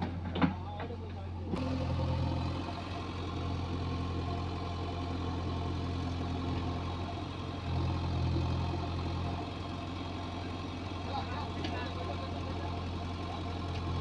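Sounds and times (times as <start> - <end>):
diesel engine idling: 0.1 - 14.0.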